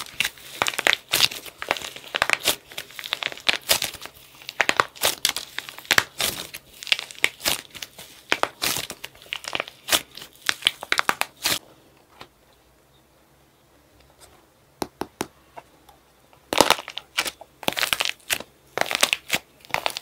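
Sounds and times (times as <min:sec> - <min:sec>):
hardened clay crackling: 0:00.0 - 0:13.0, 0:13.6 - 0:20.0.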